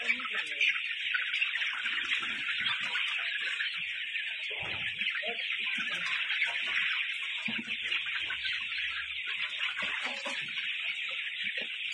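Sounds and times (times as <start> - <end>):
chickens scuffling: 0.0 - 11.9
flock of chickens calling: 0.0 - 11.9.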